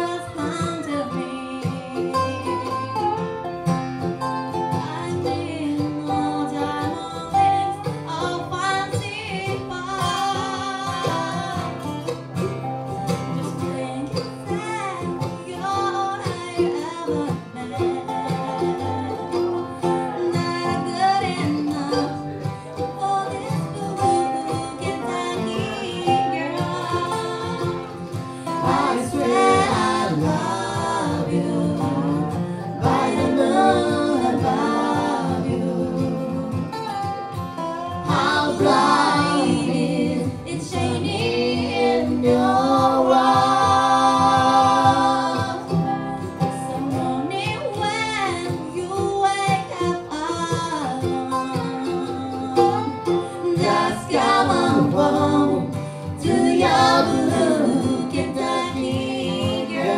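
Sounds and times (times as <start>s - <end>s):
bluegrass band playing: 0.0s - 59.9s
person singing: 4.8s - 11.8s, 13.4s - 59.9s.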